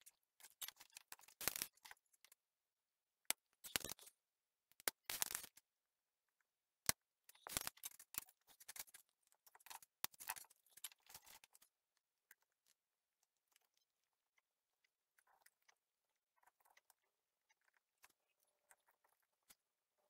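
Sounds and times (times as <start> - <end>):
desoldering crackling and clicks: 0.0 - 2.4, 3.3 - 5.7, 6.4 - 20.0.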